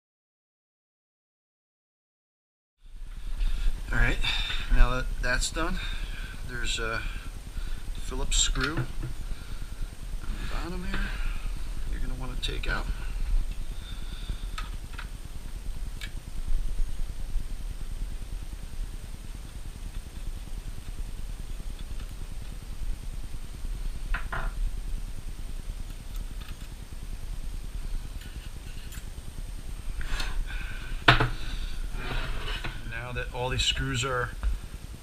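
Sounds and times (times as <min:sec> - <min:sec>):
steady low hum: 0:02.8 - 0:35.0.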